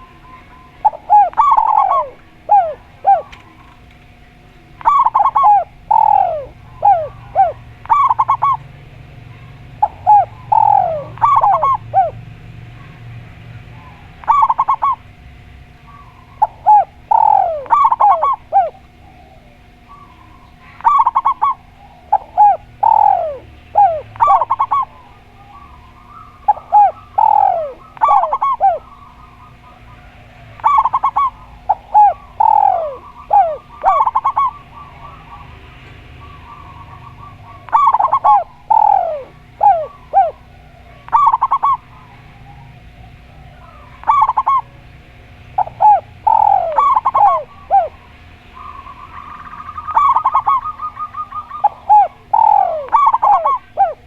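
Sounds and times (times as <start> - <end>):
doves cooing: 0.0 - 54.0
faint steady hum: 0.0 - 54.0.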